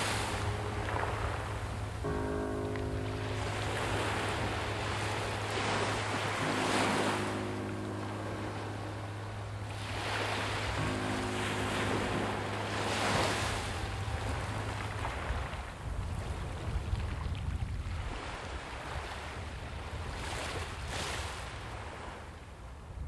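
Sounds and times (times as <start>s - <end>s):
small waves breaking on beach: 0.0s - 22.8s.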